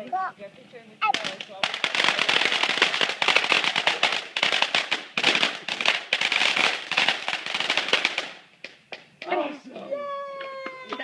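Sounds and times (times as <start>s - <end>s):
fireworks crackling: 1.0s - 11.0s.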